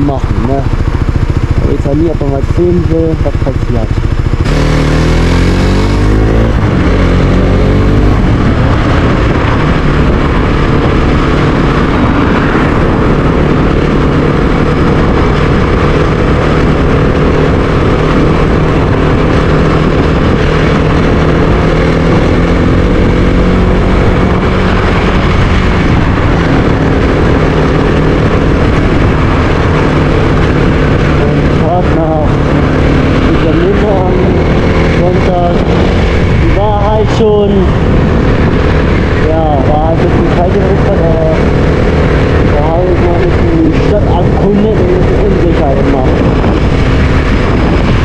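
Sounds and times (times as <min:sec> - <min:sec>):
motorcycle engine accelerating: 0:00.0 - 0:48.0
wind noise on microphone: 0:00.0 - 0:48.0.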